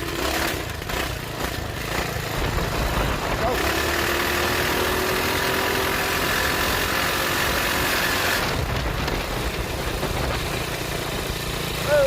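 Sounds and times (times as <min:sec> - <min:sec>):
minibike engine running: 0:00.0 - 0:12.0.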